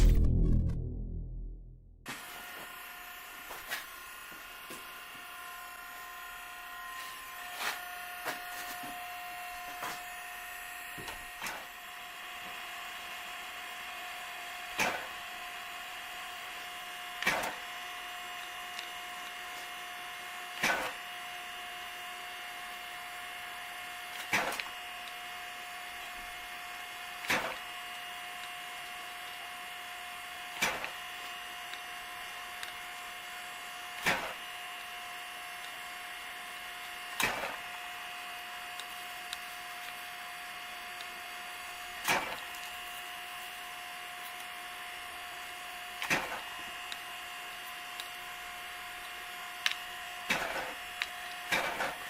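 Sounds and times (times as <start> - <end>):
machine humming and whining: 0.0 - 52.0.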